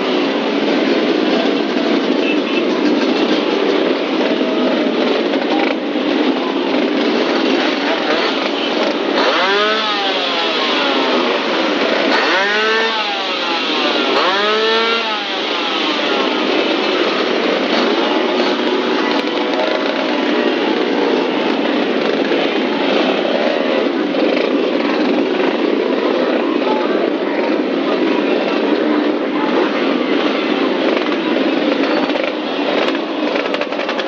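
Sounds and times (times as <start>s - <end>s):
old engine running: 0.0s - 34.0s.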